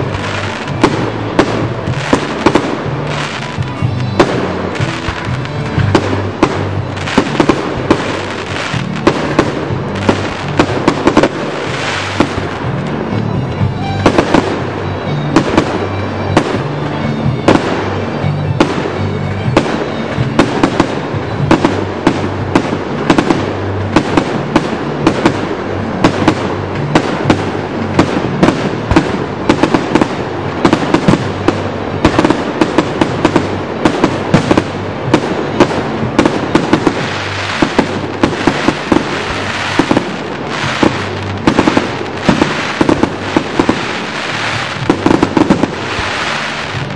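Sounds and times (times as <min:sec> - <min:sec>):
fireworks bangs and crackles: 0:00.0 - 0:46.9
music playing: 0:00.0 - 0:46.9.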